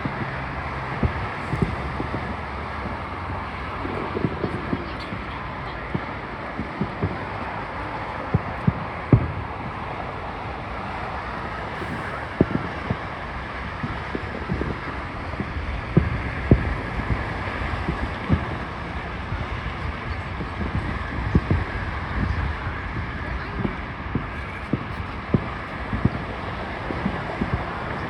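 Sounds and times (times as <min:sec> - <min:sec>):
fireworks bursting with deep booms: 0:00.0 - 0:28.0
wind on microphone: 0:00.0 - 0:28.0.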